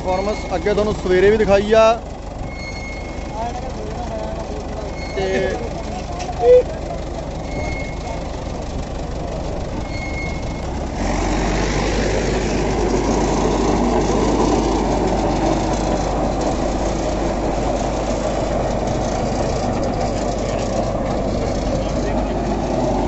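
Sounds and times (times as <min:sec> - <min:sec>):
rotor churning soil: 0:00.0 - 0:23.0
tractor diesel engine under load: 0:00.0 - 0:23.0.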